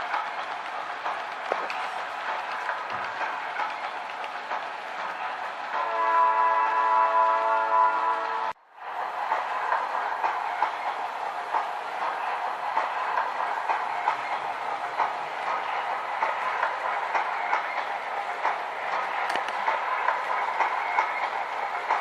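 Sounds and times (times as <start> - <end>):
wheels clicking over rail joints: 0.0 - 5.8, 9.3 - 22.0
train rushing along track: 0.0 - 22.0.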